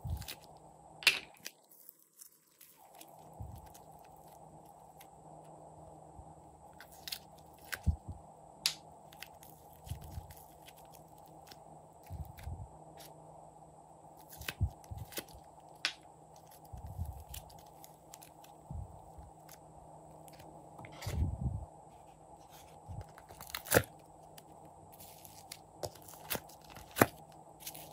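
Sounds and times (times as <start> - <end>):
faint background hum: 0.0 - 27.9.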